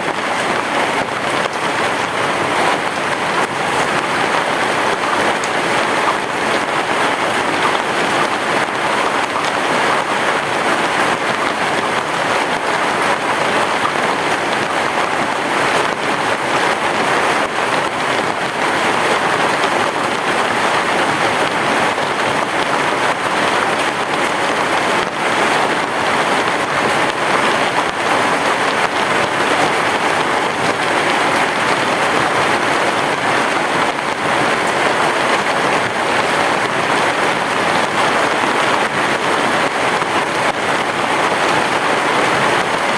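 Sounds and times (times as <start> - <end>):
heavy rain on a roof: 0.0 - 42.9.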